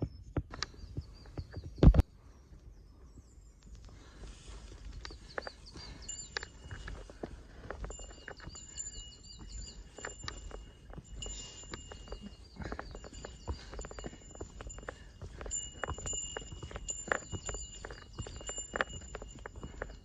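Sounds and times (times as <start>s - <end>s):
small bird singing: 0.0s - 20.0s
footsteps on rocky trail: 3.0s - 20.0s.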